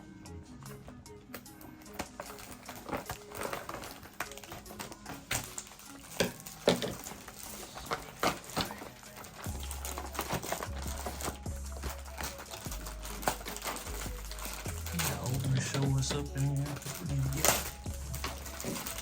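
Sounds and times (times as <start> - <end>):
background music: 0.0 - 19.0
plastic packaging crinkling: 1.5 - 19.0.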